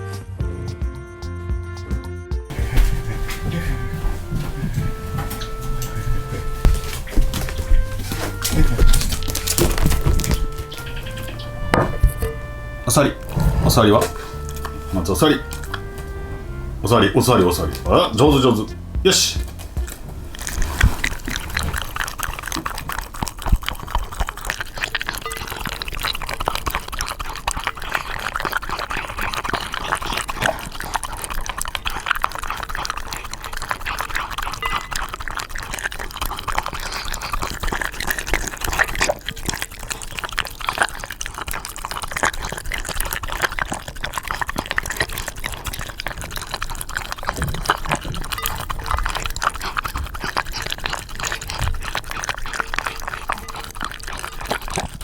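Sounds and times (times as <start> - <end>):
dog lapping water: 2.5 - 55.0.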